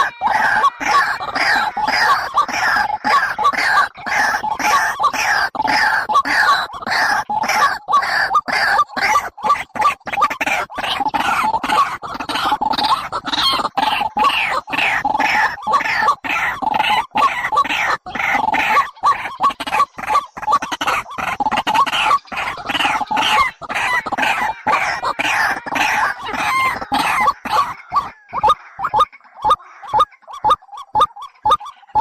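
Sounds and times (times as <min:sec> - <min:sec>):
birds calling rapidly: 0:00.0 - 0:32.0.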